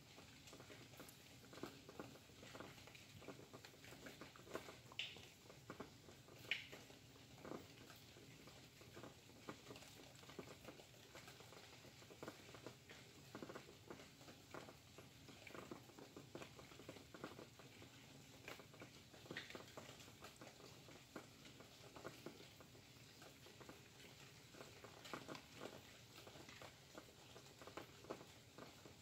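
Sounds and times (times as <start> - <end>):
faint rain falling: 0.0 - 29.0.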